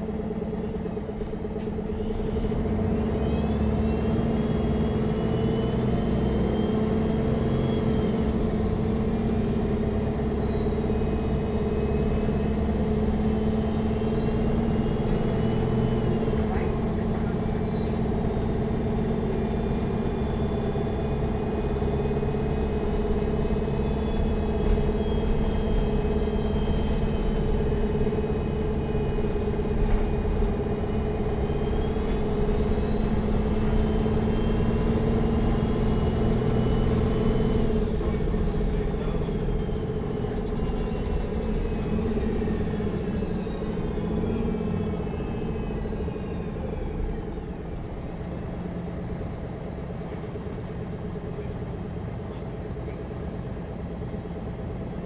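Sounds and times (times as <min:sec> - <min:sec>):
bus diesel engine drone: 0:00.0 - 0:55.0
high engine whine: 0:00.0 - 0:55.0.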